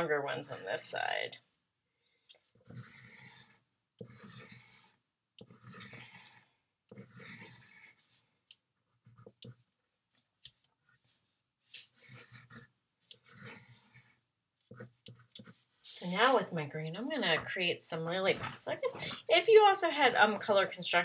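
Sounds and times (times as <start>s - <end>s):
crayon scratching on paper: 2.4s - 21.0s.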